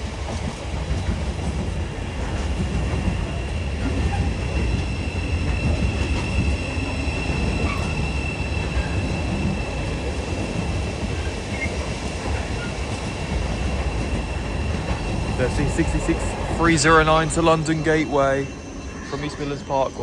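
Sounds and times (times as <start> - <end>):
high wheel squeal: 3.1 - 20.0.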